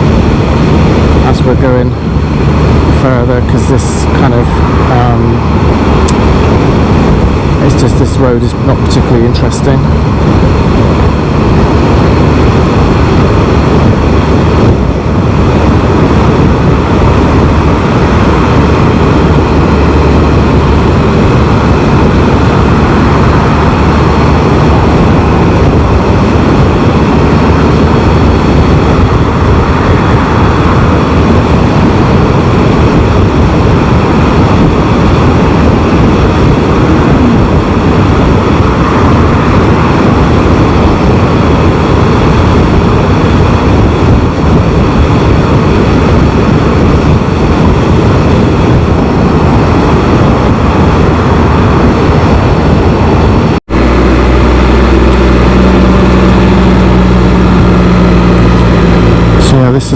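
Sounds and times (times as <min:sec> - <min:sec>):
motorcycle engine cruising: 0:00.0 - 0:59.9
wind rush: 0:00.0 - 0:59.9.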